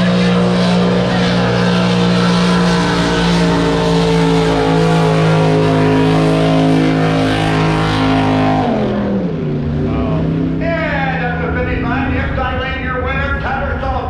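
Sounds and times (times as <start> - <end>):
boat engine running loudly: 0.0 - 14.0.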